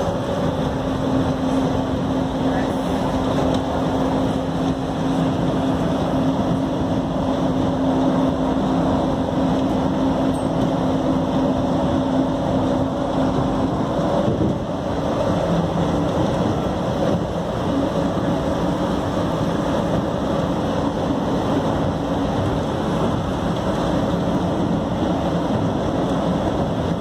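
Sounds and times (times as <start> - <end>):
train running with low hum: 0.0 - 27.0.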